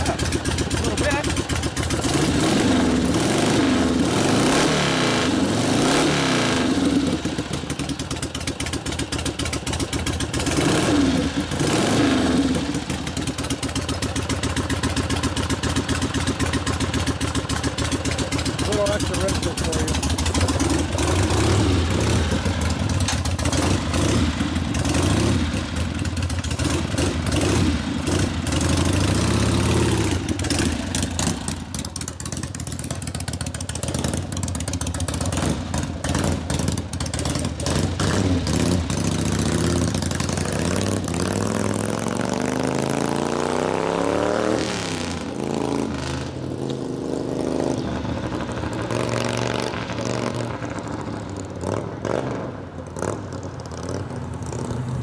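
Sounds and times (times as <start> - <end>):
motorcycle engine revving and accelerating: 0.0 - 55.0.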